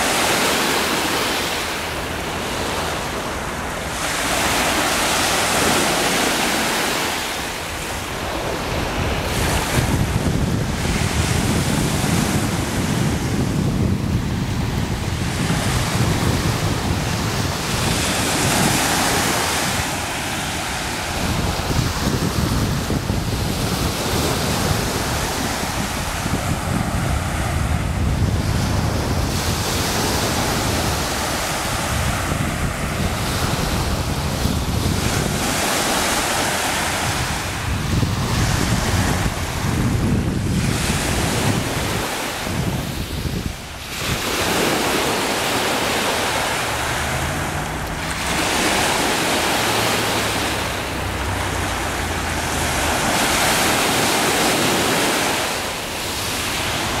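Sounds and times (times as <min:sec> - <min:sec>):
waves washing on pebble beach: 0:00.0 - 0:57.0
wind rumbling on microphone: 0:00.0 - 0:57.0.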